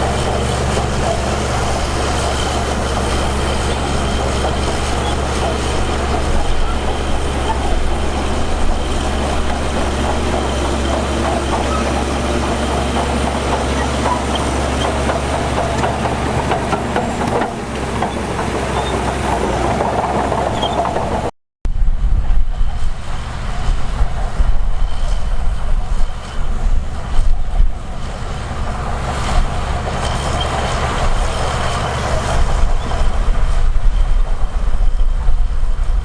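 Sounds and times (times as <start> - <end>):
gusty heavy low rumble: 0.0 - 36.0
heavy diesel machinery rumbling: 0.0 - 36.0.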